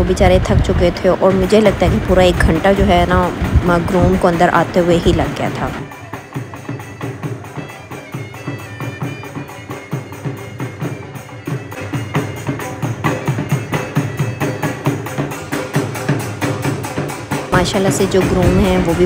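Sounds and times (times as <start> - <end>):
drums in fast driving rhythm: 0.0 - 19.0.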